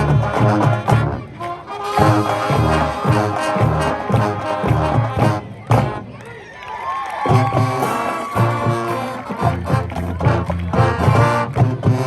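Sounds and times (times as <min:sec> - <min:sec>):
drums: 0:00.0 - 0:01.4, 0:02.0 - 0:06.0, 0:07.2 - 0:12.0
low brass notes: 0:00.0 - 0:06.2, 0:07.3 - 0:12.0
marching band playing: 0:00.0 - 0:06.2, 0:07.2 - 0:12.0.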